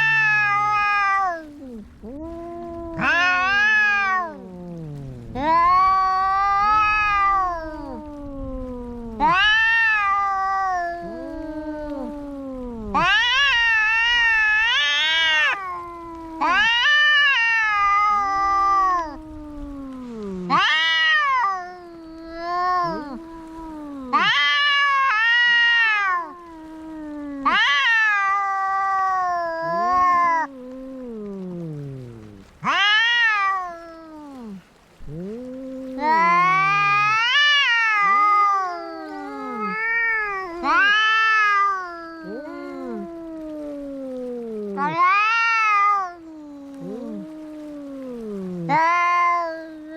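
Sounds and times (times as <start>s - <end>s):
cat growling yowl: 0.0s - 49.9s
cats yowling: 0.0s - 49.9s.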